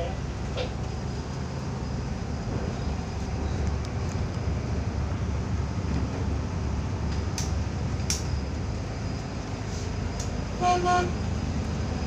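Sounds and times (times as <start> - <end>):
boat diesel engine rumbling: 0.0 - 12.0.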